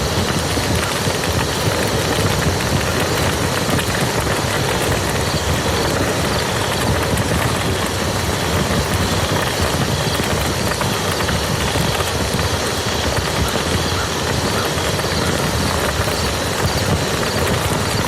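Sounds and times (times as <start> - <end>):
heavy rain on a field: 0.0 - 18.0.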